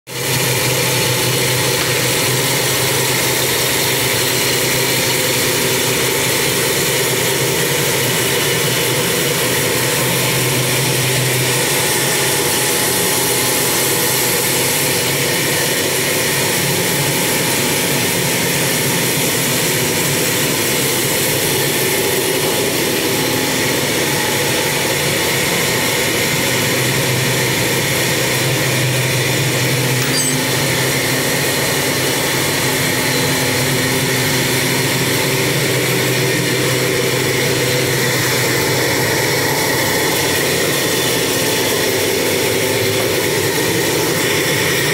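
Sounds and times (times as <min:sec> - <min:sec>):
steam engine running: 0:00.2 - 0:44.7.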